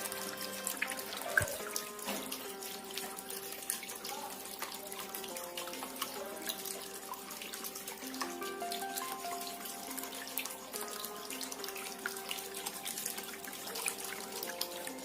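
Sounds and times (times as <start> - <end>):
fountain water trickling and splashing: 0.0 - 15.0.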